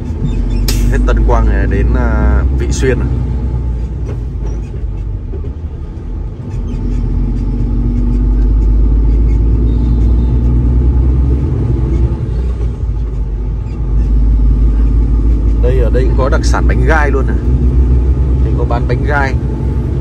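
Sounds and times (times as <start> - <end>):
truck diesel engine rumble: 0.0 - 20.0.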